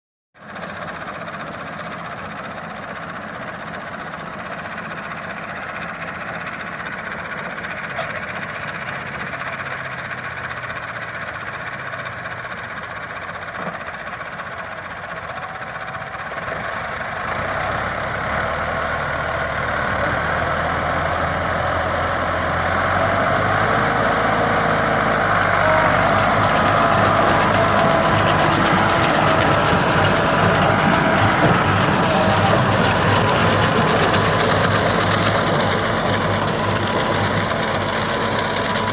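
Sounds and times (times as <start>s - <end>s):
tractor diesel engine running: 0.4s - 38.9s.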